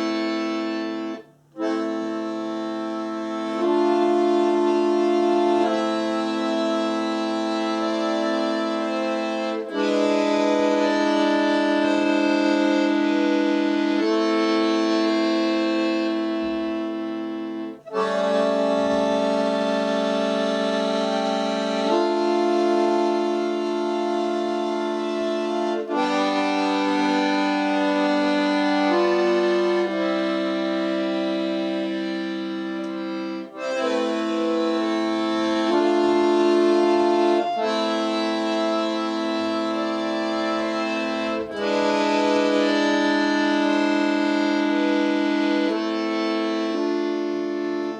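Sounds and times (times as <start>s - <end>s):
accordion playing held chords: 0.0s - 47.9s.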